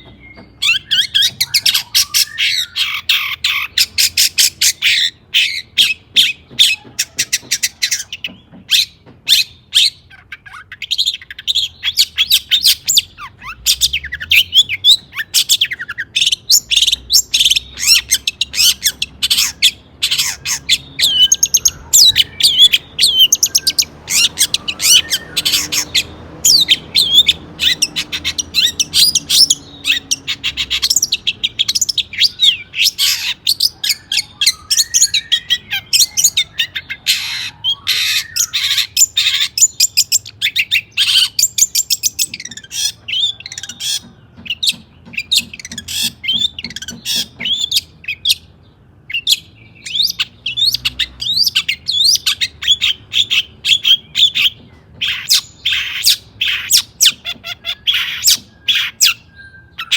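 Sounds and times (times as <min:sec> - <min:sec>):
bird singing harsh chattering song: 0:00.0 - 0:59.9.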